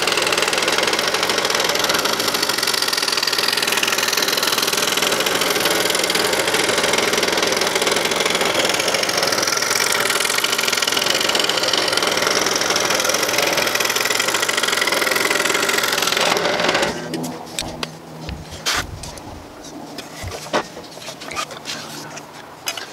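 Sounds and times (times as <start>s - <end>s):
scroll saw cutting wood: 0.0s - 22.9s.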